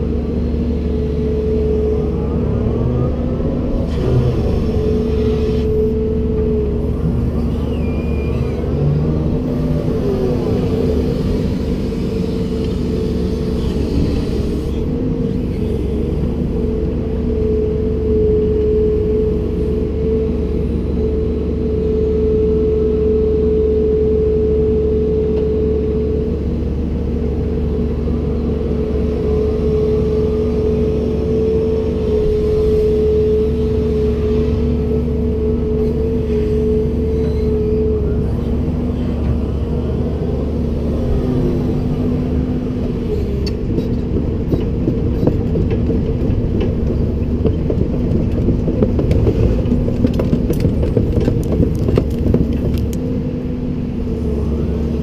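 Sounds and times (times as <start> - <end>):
excavator engine rumble: 0.0 - 55.0.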